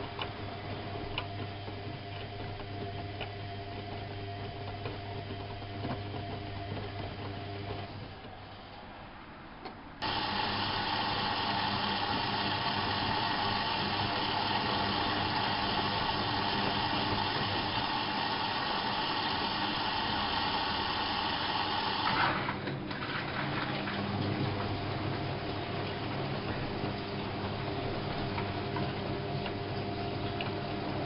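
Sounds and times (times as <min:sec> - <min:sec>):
washing machine humming: 0:00.0 - 0:31.0.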